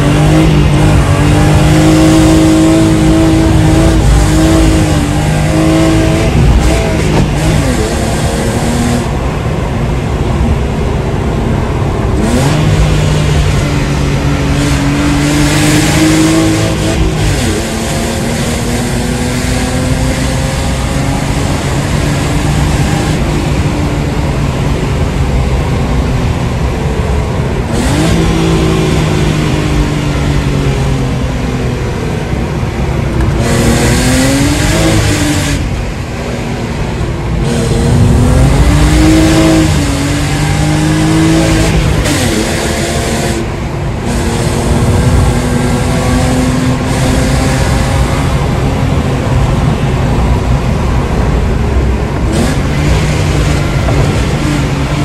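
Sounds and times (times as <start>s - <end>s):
car engine revving: 0.0s - 55.0s
loud exhaust: 0.0s - 55.0s.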